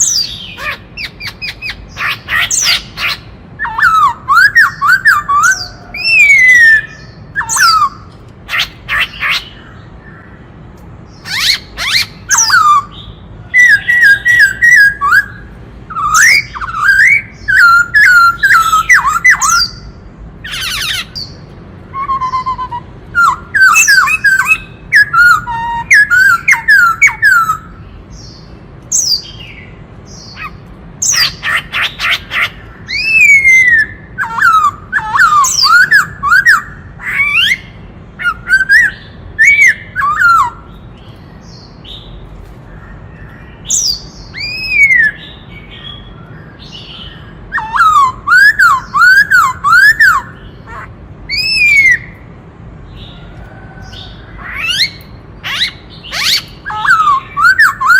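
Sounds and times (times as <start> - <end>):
bird whistling song: 0.0 - 10.4, 11.1 - 52.3, 53.8 - 57.9.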